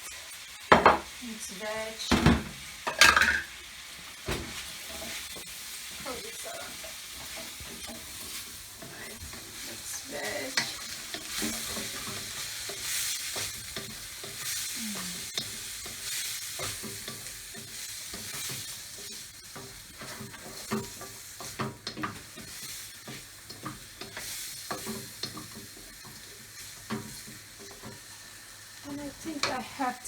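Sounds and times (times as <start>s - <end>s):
rice sizzling in a pan: 0.0s - 30.0s.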